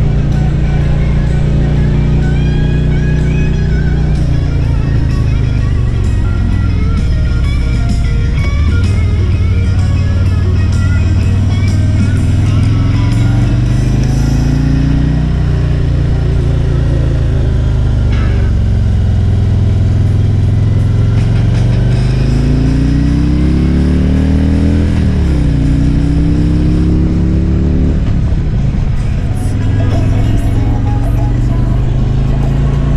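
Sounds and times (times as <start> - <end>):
motorcycle engine accelerating: 0.0 - 32.9
music: 0.0 - 32.9.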